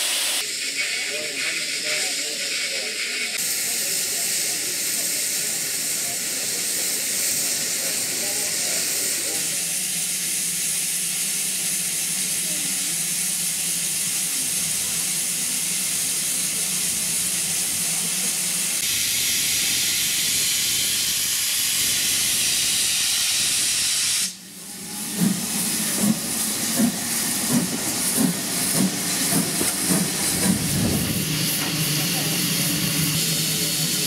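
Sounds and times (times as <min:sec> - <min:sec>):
pulsing steam hiss: 0:00.0 - 0:34.0
steam locomotive hissing: 0:00.0 - 0:34.0.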